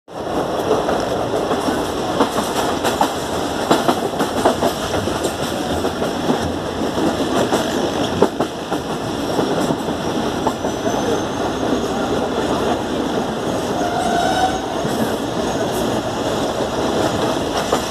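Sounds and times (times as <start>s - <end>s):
train wheels rumbling on rail: 0.1s - 17.9s
wheels clacking over rail joints: 0.1s - 17.9s.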